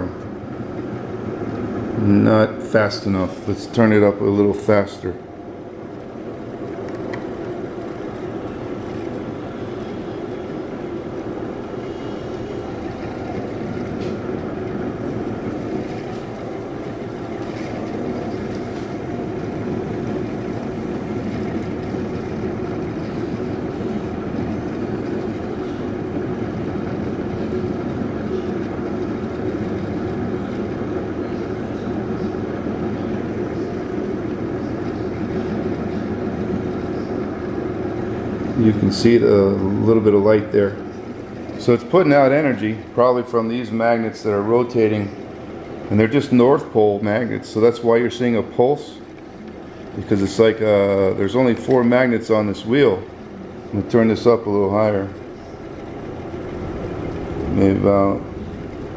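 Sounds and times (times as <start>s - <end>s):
motor pulsing hum: 0.0s - 58.9s.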